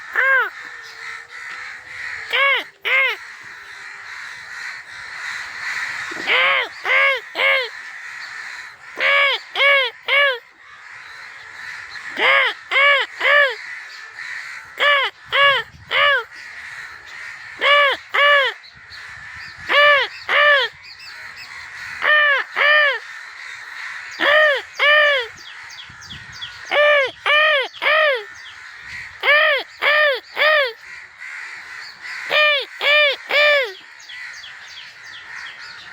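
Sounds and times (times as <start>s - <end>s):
crows cawing: 0.0s - 35.9s.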